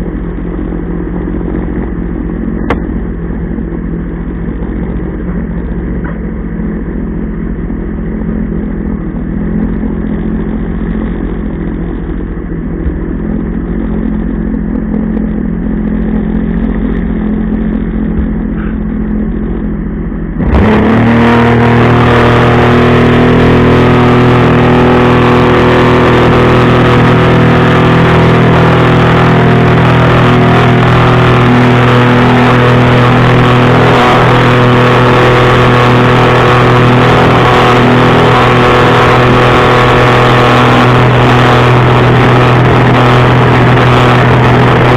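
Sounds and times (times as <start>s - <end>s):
jet ski engine running: 0.0s - 44.9s.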